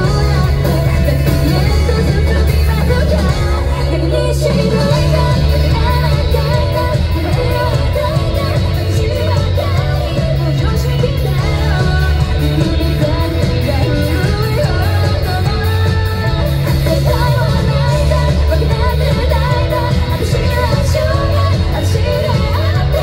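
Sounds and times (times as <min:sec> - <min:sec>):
distorted electric guitar: 0:00.0 - 0:23.0
live rock band playing: 0:00.0 - 0:23.0
woman singing: 0:00.0 - 0:23.0.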